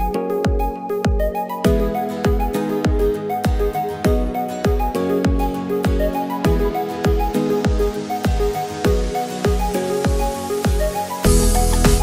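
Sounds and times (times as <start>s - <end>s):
deep kick drum: 0.0s - 12.0s
electronic music: 0.0s - 12.0s.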